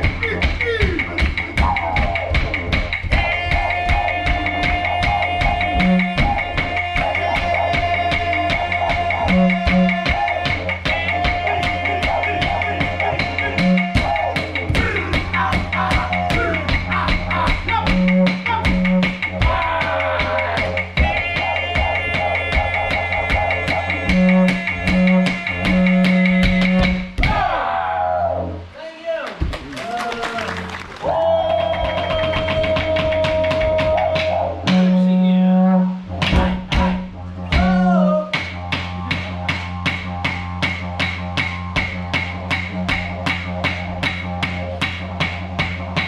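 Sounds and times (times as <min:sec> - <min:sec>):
clapsticks beating rhythm: 0:00.0 - 0:27.4, 0:29.3 - 0:34.9, 0:36.2 - 0:46.0
didgeridoo drone: 0:00.0 - 0:28.7, 0:31.0 - 0:46.0.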